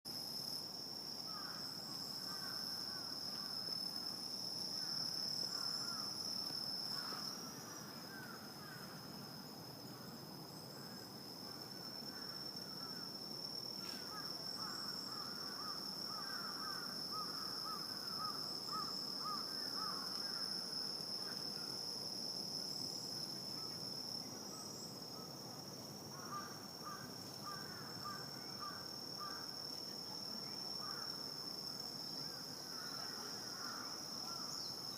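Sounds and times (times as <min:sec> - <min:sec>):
insects trilling: 0:00.1 - 0:34.9.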